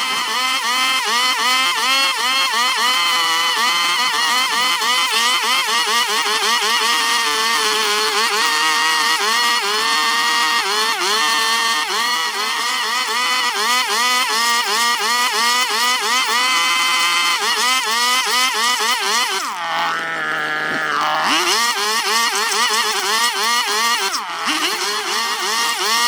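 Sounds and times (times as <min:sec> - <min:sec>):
chainsaw cutting log: 0:00.0 - 0:26.0.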